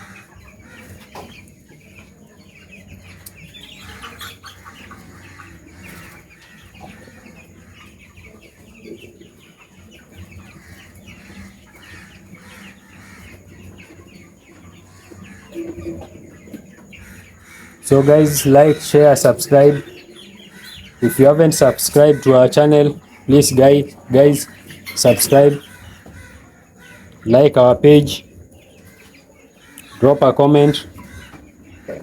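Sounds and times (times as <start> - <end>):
chicks clucking and cheeping: 0.0 - 32.0.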